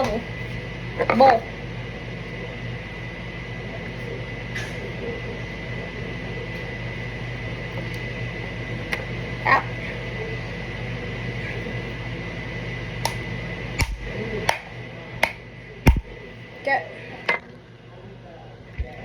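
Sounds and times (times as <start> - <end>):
high whine: 0.0 - 16.5
kitchen appliance humming: 0.0 - 19.0.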